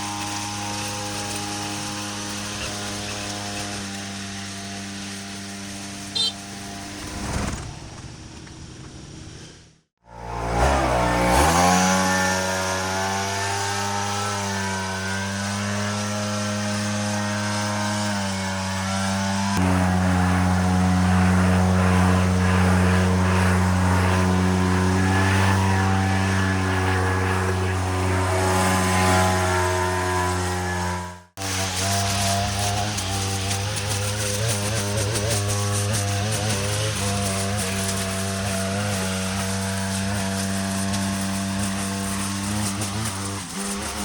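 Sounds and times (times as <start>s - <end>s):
small petrol engine running: 0.0s - 44.0s.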